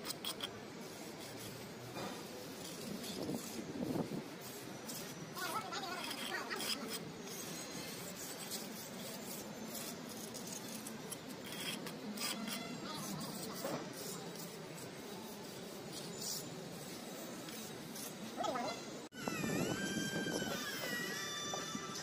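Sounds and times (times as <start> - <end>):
hand scraping wet mortar: 0.0 - 18.8.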